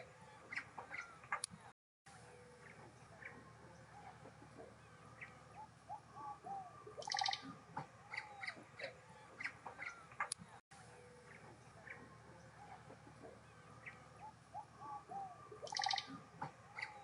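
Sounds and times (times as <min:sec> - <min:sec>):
forest birds chirping and whistling: 0:00.0 - 0:01.4, 0:02.1 - 0:17.0
low background noise: 0:00.0 - 0:17.0.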